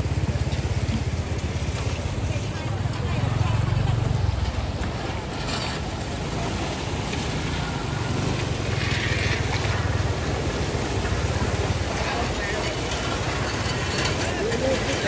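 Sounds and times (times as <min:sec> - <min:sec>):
engine rumbling with hiss: 0:00.0 - 0:15.0.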